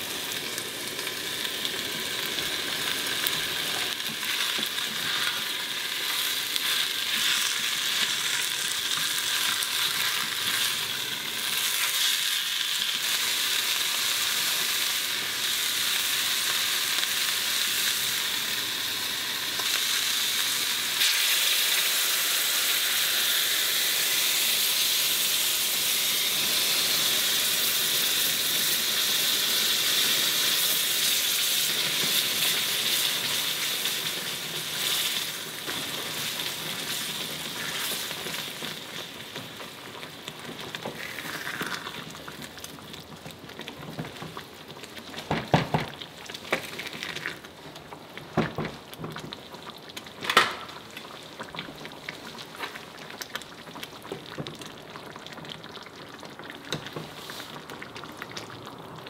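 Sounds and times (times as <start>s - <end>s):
vegetables sizzling in a saucepan: 0.0s - 59.0s.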